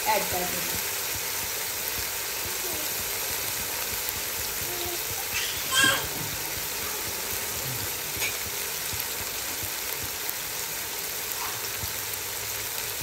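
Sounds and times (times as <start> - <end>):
faint crackles: 0.0 - 13.0
masala sizzling in oil: 0.0 - 13.0.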